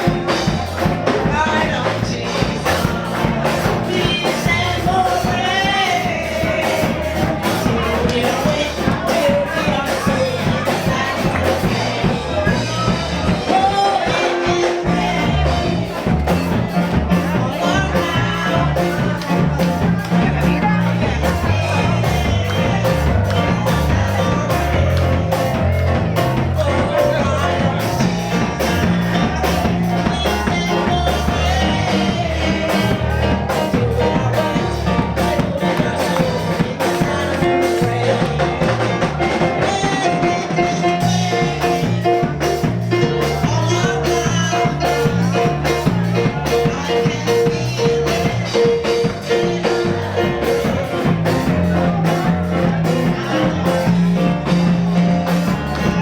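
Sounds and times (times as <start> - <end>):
band playing gospel groove: 0.0 - 56.0
singing: 0.0 - 56.0.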